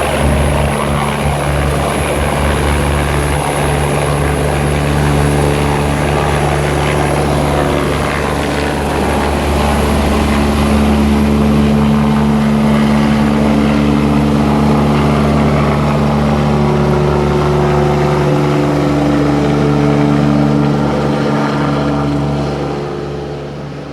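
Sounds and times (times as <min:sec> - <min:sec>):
helicopter rotor and turbine drone: 0:00.0 - 0:23.9.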